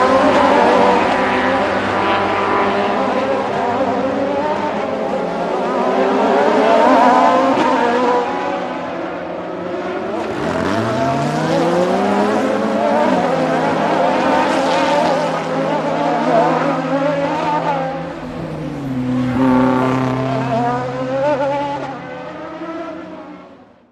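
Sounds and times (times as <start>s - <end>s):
race car engine: 0.0s - 23.9s.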